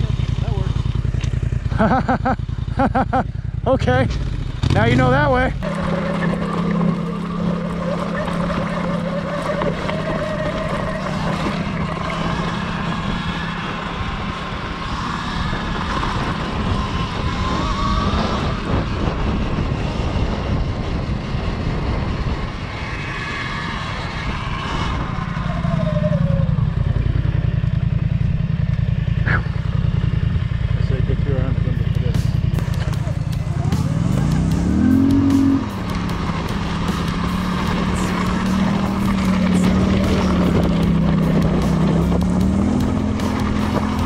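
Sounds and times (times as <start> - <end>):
quad bike engine droning: 0.0 - 44.0.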